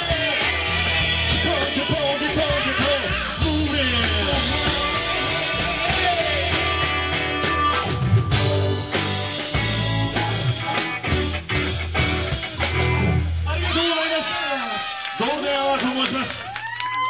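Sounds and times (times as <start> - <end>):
live rock band playing: 0.0 - 14.4.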